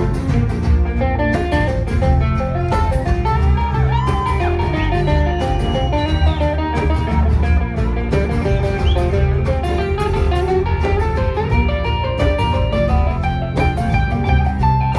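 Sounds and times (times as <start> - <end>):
acoustic guitars picking: 0.0 - 14.9
banjo picking: 0.0 - 14.9.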